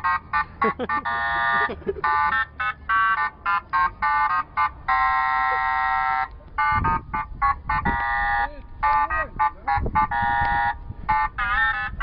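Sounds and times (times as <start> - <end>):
car alarm siren beeping: 0.0 - 12.0.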